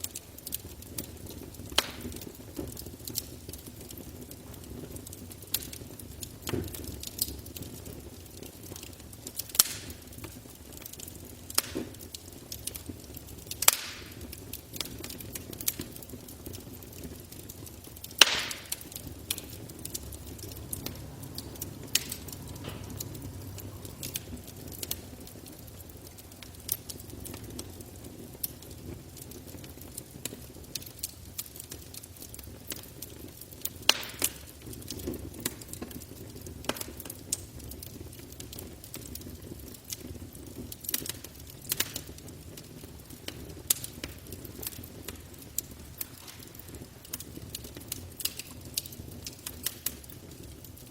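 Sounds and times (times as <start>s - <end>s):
low rumble of flames: 0.0s - 50.9s
wood crackling and popping: 0.0s - 50.9s.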